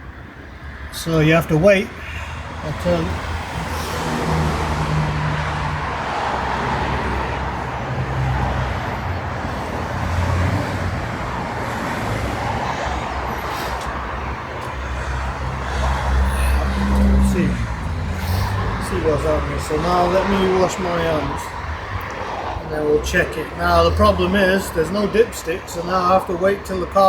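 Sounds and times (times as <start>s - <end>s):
car engine idling: 0.9s - 27.0s.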